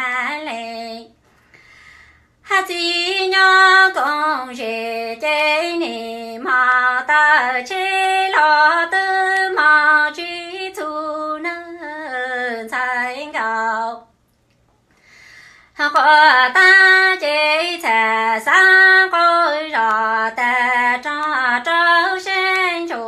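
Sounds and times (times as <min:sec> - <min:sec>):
woman singing unaccompanied: 0:00.0 - 0:01.2, 0:02.4 - 0:14.1, 0:15.7 - 0:23.0.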